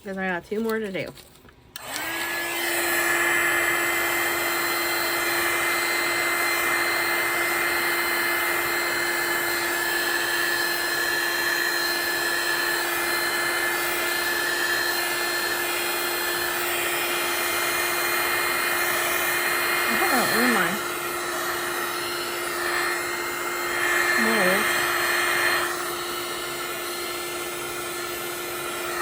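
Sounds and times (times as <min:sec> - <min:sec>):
hot-air blower rushing and whining: 0:01.8 - 0:29.0.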